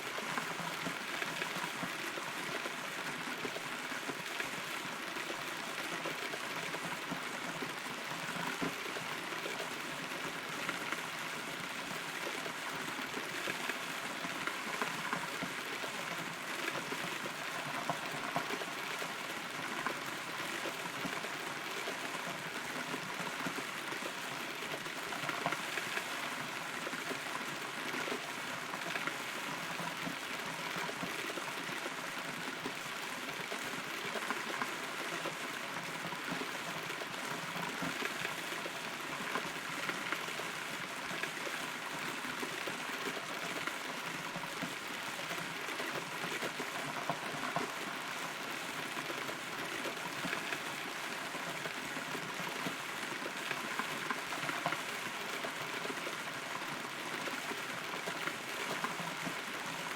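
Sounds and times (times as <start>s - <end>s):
steady rain hiss: 0.0s - 59.9s
raindrops hitting wood: 0.1s - 59.9s.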